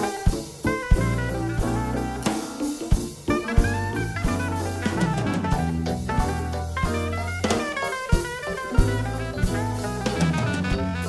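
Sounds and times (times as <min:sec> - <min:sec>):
busy drum kit: 0:00.0 - 0:11.0
electric bass notes: 0:00.0 - 0:11.0
saxophone melody: 0:00.0 - 0:11.0.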